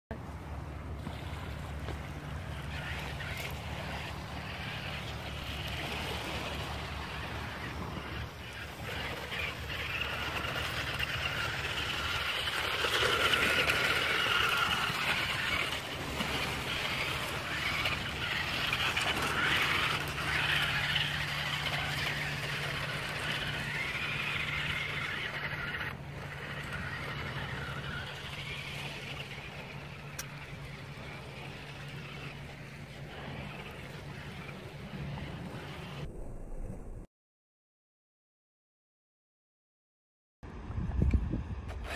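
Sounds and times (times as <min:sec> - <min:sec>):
toy truck electric motors whining: 0:02.1 - 0:36.0, 0:41.7 - 0:41.9.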